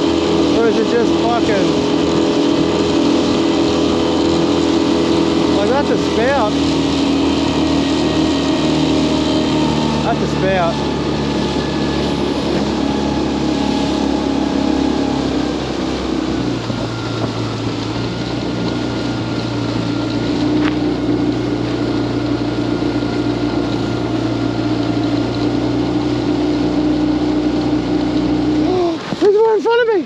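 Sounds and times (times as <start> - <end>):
outboard motor running: 0.0 - 30.0
water rushing along hull: 0.0 - 30.0.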